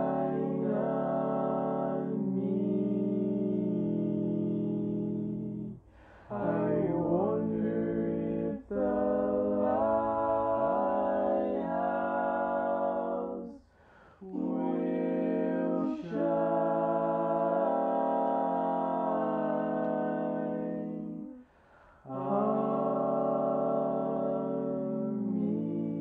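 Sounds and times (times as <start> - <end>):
a cappella harmony singing: 0.0 - 26.0.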